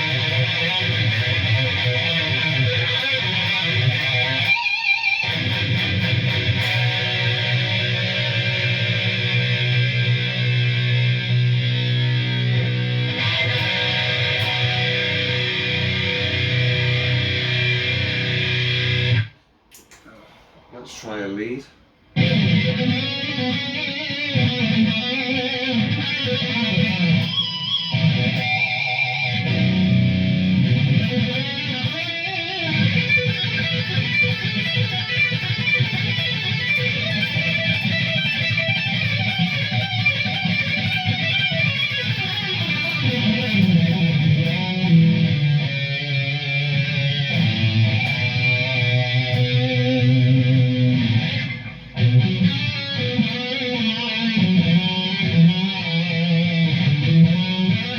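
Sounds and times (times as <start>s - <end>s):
electric guitar lead: 0.0s - 19.4s, 22.1s - 57.9s.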